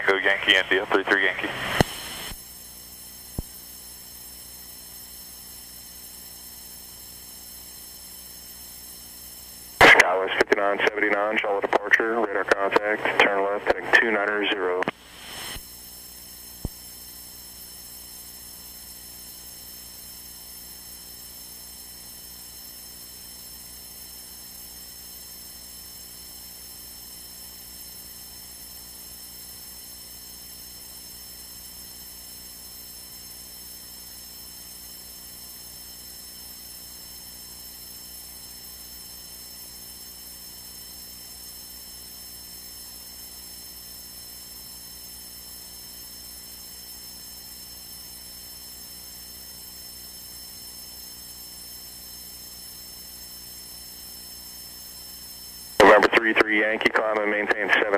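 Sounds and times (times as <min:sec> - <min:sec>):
radio electrical hum and hiss: 0:00.0 - 0:57.9.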